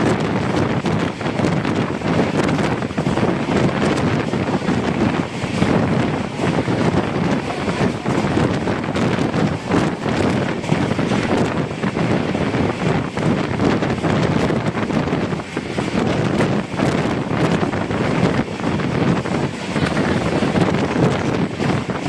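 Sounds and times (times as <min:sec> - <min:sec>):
train rumbling on track: 0:00.0 - 0:22.0
wind buffeting microphone: 0:00.0 - 0:22.0.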